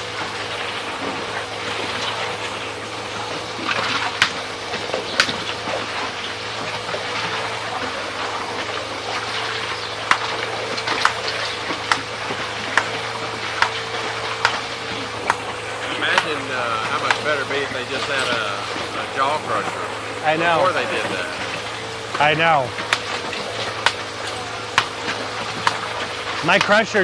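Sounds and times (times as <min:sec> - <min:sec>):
ore mill engine hum: 0:00.0 - 0:27.0
rushing water-like noise: 0:00.0 - 0:27.0.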